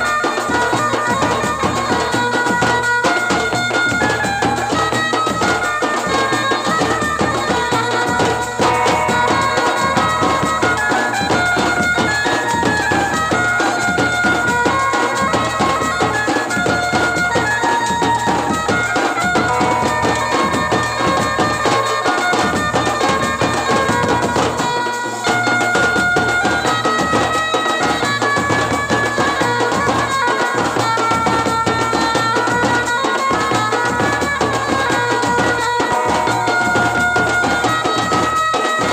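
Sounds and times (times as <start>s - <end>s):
reedy wind instrument melody: 0.0s - 38.9s
steady drumming: 0.0s - 38.9s.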